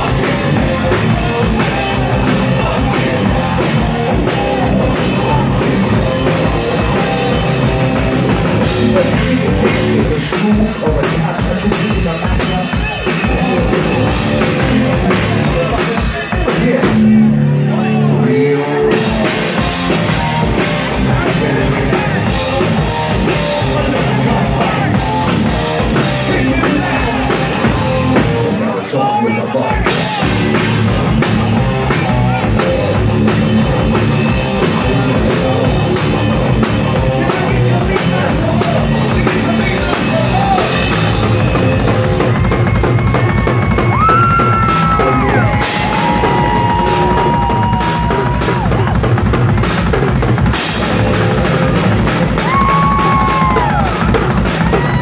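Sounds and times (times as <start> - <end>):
bass guitar: 0.0 - 55.0
drum kit: 0.0 - 55.0
electric guitars: 0.0 - 55.0.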